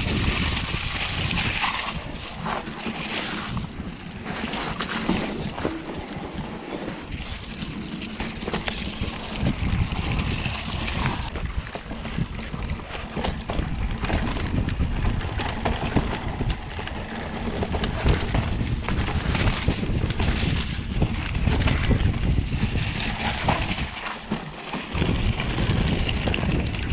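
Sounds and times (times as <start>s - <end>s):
bike rattling and clicking: 0.0s - 26.9s
wind rumble on microphone: 0.0s - 26.9s.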